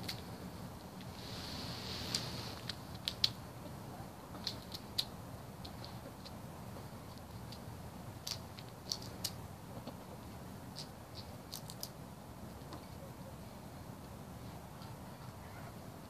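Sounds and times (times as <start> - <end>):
faint low background noise: 0.0 - 16.0.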